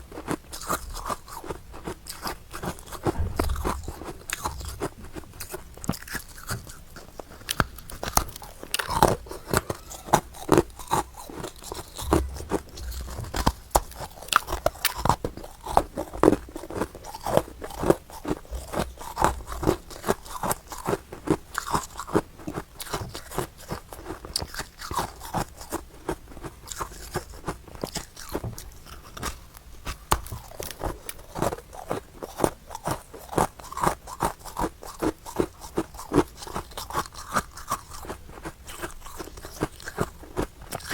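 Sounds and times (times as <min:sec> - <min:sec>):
chewing crunchy frost: 0:00.1 - 0:40.9.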